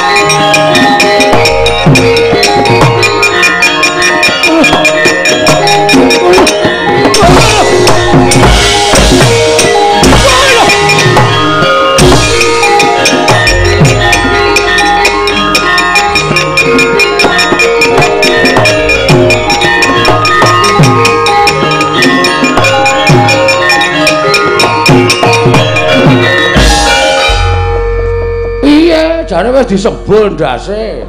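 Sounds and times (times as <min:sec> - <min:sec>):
drum strokes: 0:00.0 - 0:29.4
metallophones ringing melody: 0:00.0 - 0:31.0.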